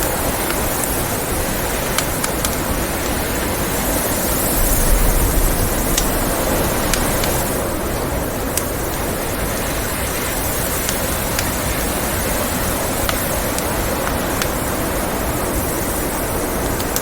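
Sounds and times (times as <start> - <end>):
blizzard wind: 0.0 - 17.0
wood fire crackling: 0.0 - 17.0.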